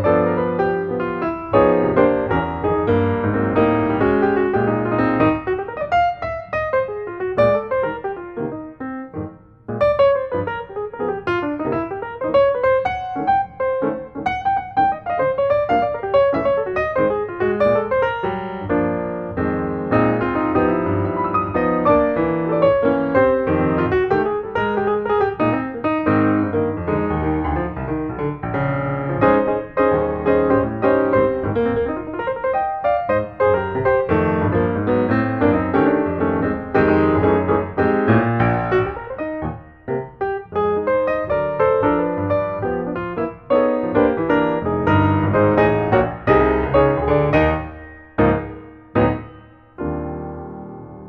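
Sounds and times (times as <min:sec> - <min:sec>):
instrumental music: 0:00.0 - 0:51.0.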